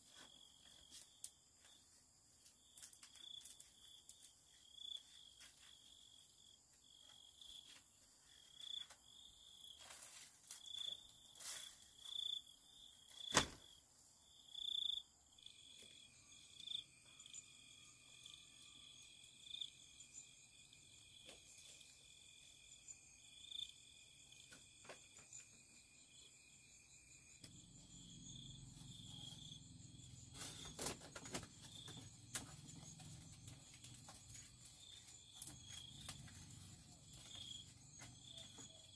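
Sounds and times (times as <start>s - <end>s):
insects trilling: 0.1s - 38.9s.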